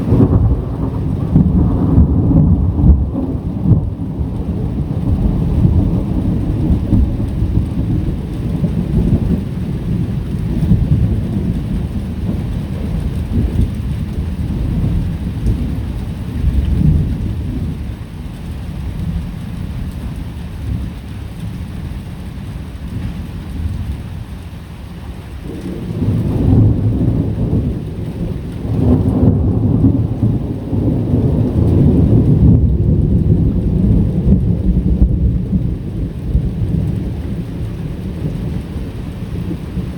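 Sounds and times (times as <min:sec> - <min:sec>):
rolling thunder: 0:00.0 - 0:22.0, 0:25.3 - 0:39.9
steady rain: 0:00.0 - 0:39.9.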